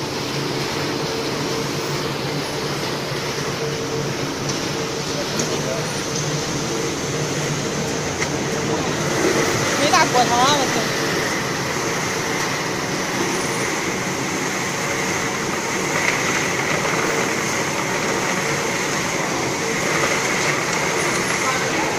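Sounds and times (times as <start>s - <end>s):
faint steady whine: 0.0s - 21.9s
machinery mechanical drone and hiss: 0.0s - 21.9s.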